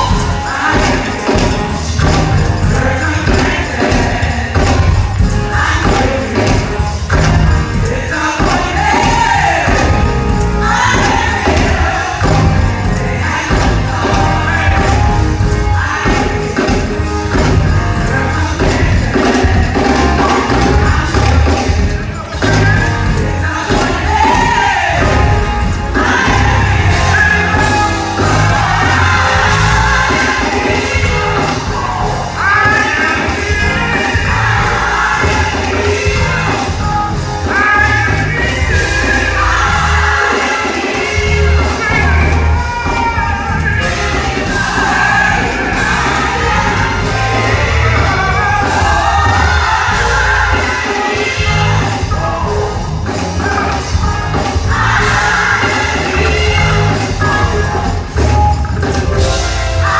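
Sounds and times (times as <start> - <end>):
gospel music with belting singer: 0.0 - 59.9.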